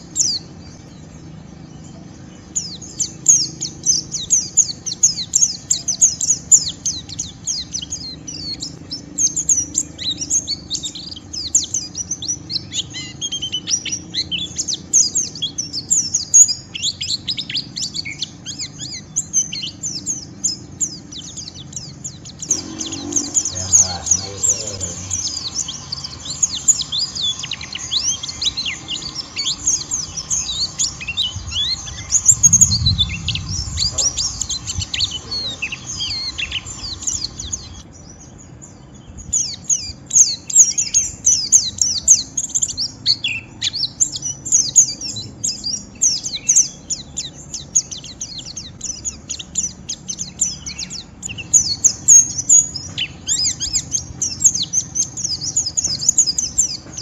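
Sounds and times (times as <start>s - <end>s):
white-eye bird chattering: 2.0s - 37.9s, 39.4s - 57.0s.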